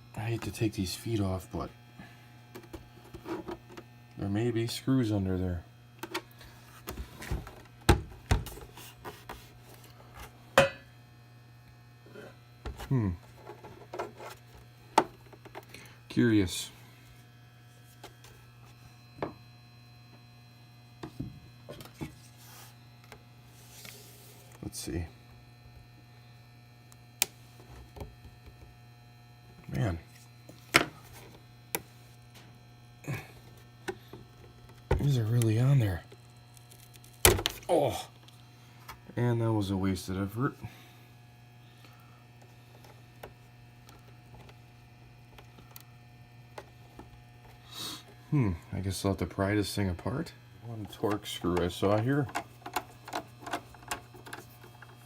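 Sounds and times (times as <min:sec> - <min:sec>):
steady electrical hum: 0:00.0 - 0:55.0.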